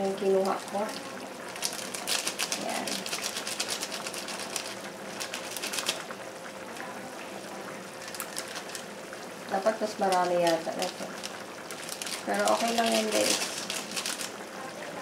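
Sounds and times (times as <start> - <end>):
broth simmering with popping bubbles: 0.0 - 15.0.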